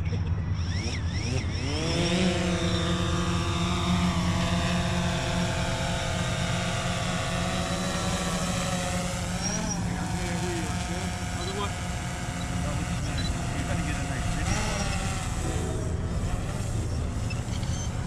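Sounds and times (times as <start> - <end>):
drone propeller motors whining: 0.0 - 18.0.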